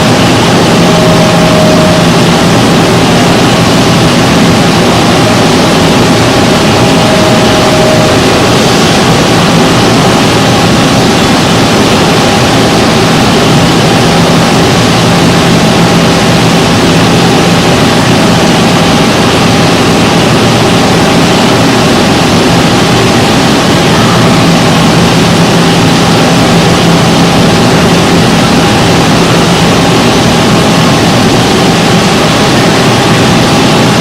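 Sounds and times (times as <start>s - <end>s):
milling machine running: 0.0s - 34.0s.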